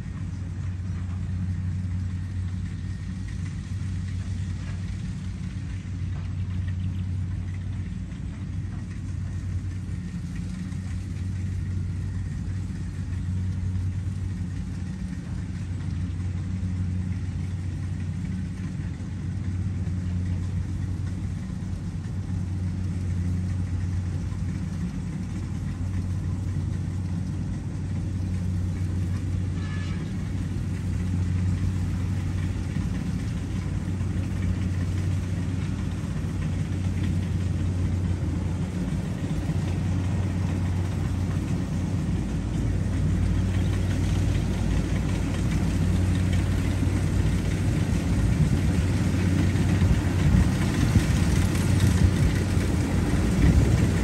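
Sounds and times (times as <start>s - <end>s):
combine harvester diesel engine droning: 0.0s - 54.0s.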